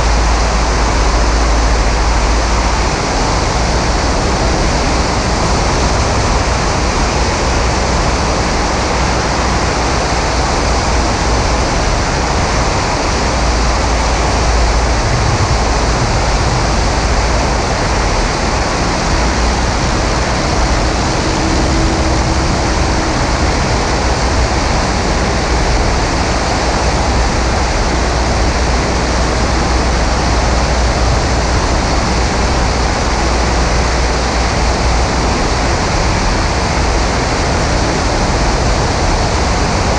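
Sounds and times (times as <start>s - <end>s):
plane engine and propeller drone: 0.0s - 39.9s
wind rushing over camera: 0.0s - 39.9s.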